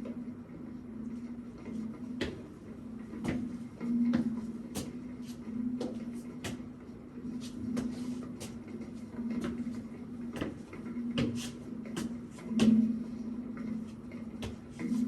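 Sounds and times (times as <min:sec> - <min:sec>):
pulsing low hum: 0:00.6 - 0:15.0.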